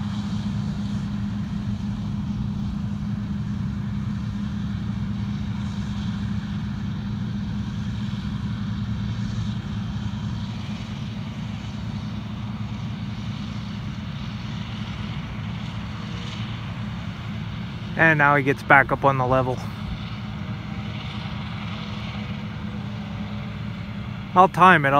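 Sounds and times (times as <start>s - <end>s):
combine diesel engine droning: 0.0s - 24.9s.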